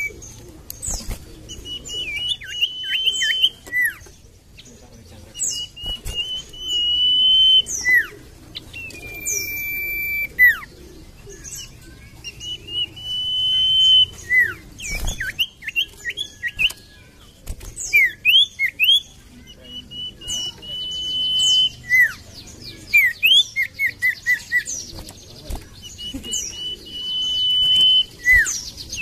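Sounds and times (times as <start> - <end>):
bird singing whistled notes: 0.0 - 4.1, 5.3 - 10.7, 11.3 - 24.9, 25.5 - 29.0
bird chirps: 0.0 - 29.0.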